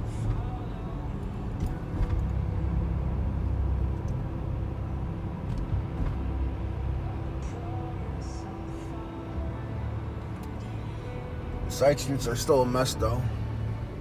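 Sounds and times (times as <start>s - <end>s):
car traffic rumble: 0.0s - 14.0s.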